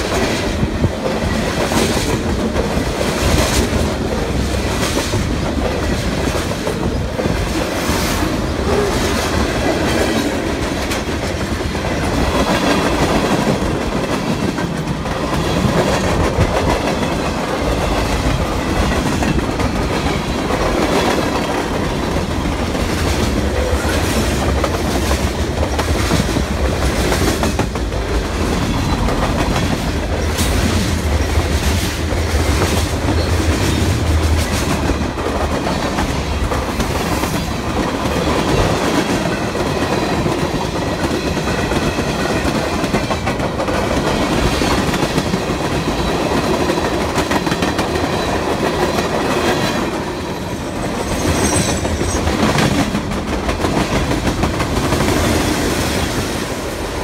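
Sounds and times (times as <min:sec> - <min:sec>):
train wheels rumbling over rails: 0:00.0 - 0:57.0.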